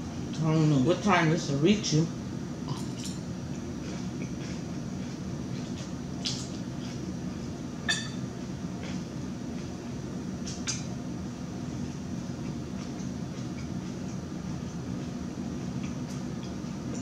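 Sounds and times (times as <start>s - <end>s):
steady low hum: 0.0s - 17.0s
person chewing salad: 2.6s - 11.0s, 11.6s - 17.0s.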